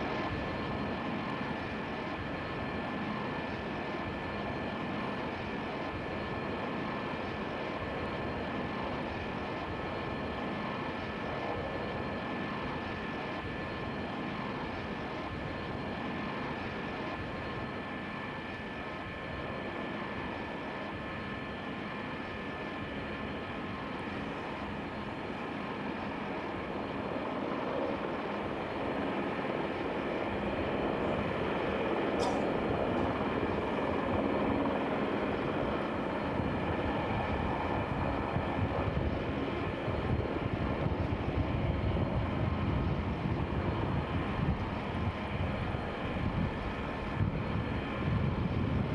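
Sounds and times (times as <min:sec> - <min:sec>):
jet airliner engines: 0:00.0 - 0:48.9.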